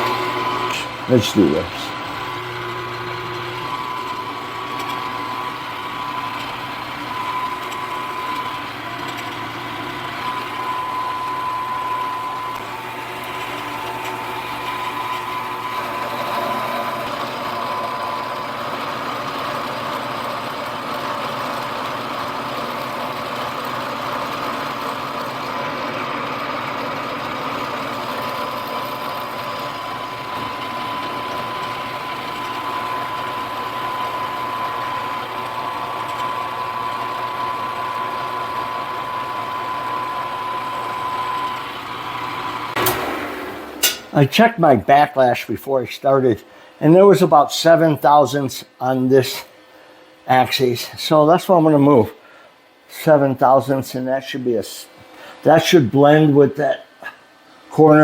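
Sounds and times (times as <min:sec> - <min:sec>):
milling machine cutting: 0:00.0 - 0:49.6.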